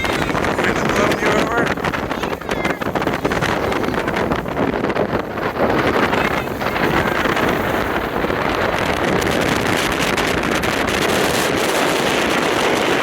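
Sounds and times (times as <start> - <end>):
strong wind on microphone: 0.0 - 13.0.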